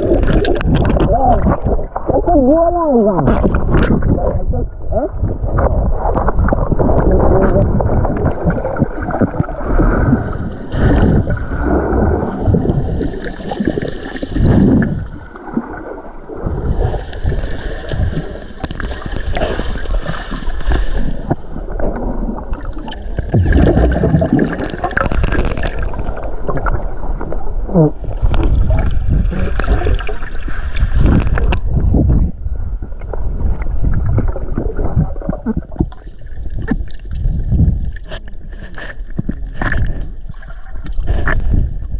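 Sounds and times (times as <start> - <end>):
underwater rumbling and gurgling: 0.0 - 41.9.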